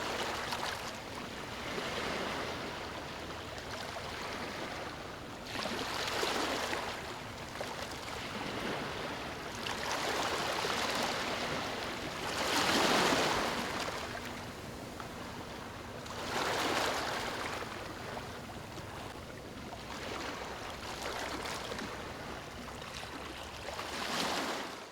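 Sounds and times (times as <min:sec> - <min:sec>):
sea waves breaking on a beach: 0:00.0 - 0:24.9.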